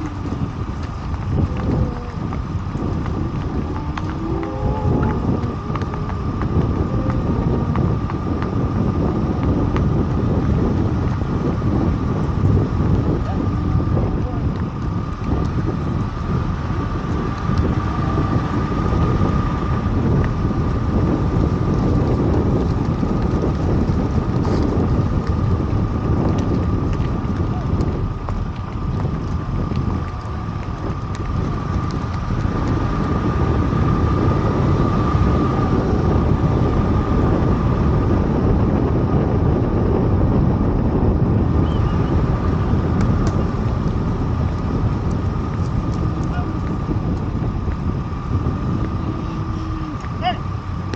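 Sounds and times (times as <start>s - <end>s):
vehicle rumble: 0.0s - 50.9s
wind buffeting microphone: 0.0s - 50.9s.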